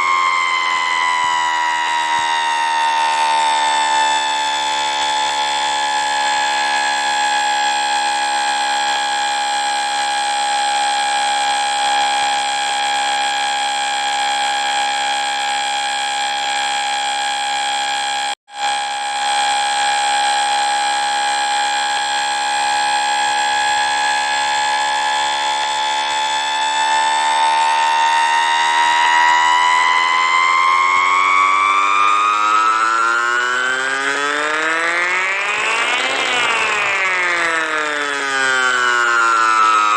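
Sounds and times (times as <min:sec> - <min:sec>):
harsh buzzing alarm tone: 0:00.0 - 0:39.9.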